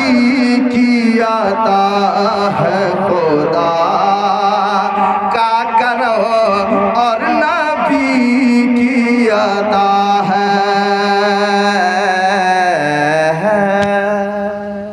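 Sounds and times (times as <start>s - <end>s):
man singing into a microphone: 0.0s - 14.9s.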